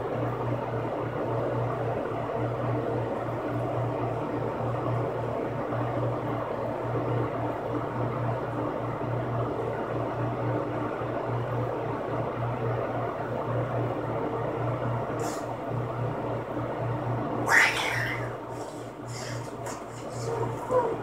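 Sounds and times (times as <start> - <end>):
electric box fan whirring: 0.0 - 21.0.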